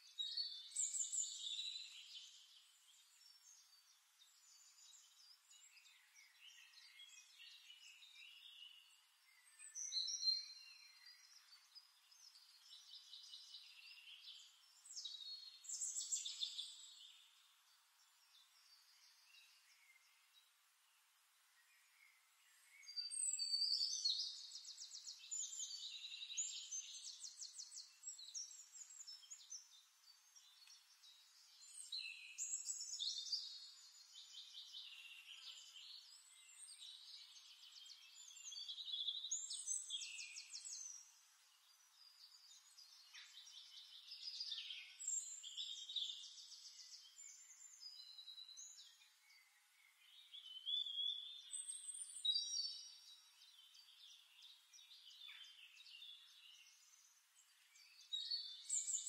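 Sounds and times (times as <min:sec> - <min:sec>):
songbird trills and whistles: 0:00.0 - 0:02.6, 0:03.2 - 0:17.4, 0:21.9 - 0:59.0.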